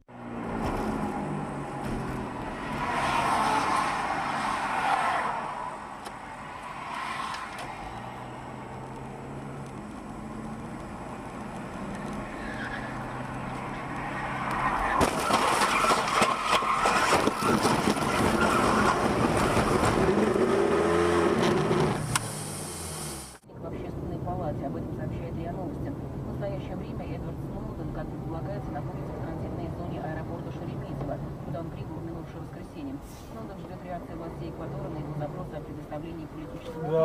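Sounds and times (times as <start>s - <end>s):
road noise: 0.0s - 37.0s
car engine hum: 0.1s - 37.0s.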